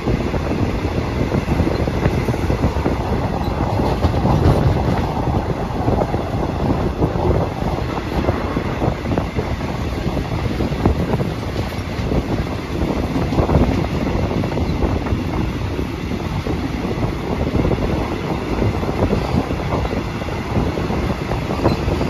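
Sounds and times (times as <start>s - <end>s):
train running noise: 0.0s - 22.0s
wheels clattering on rails: 0.0s - 22.0s.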